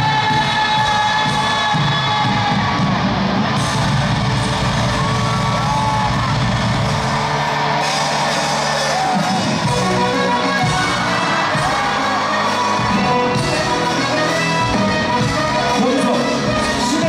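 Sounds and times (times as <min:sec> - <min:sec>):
crowd whooping and yelling: 0:00.0 - 0:17.0
loud live pop music: 0:00.0 - 0:17.0.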